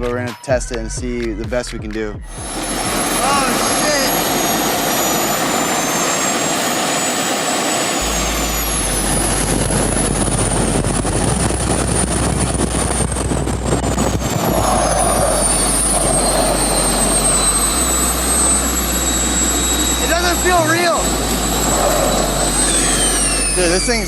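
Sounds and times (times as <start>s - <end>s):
jet engines with turbine whine: 2.2s - 24.0s.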